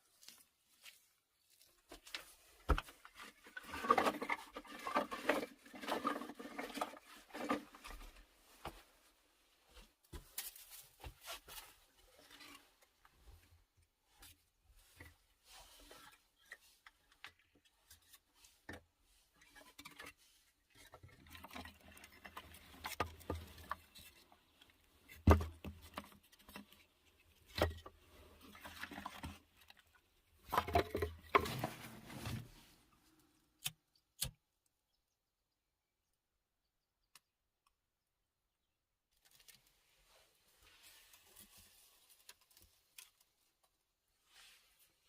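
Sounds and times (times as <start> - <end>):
rustling handling noises: 0.0 - 33.4, 39.1 - 45.0.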